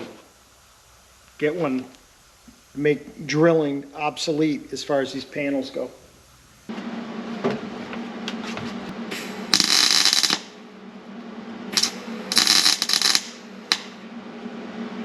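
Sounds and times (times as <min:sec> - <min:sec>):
welding arc crackling: 0:00.0 - 0:06.7, 0:08.8 - 0:14.2
steady low hum: 0:00.0 - 0:15.0.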